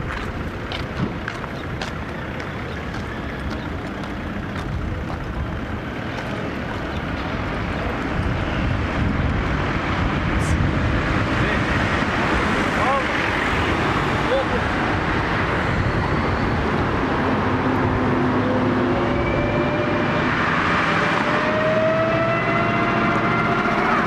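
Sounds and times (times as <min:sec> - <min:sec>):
street traffic hum: 0:00.0 - 0:24.0
vehicle approaching: 0:00.0 - 0:24.0.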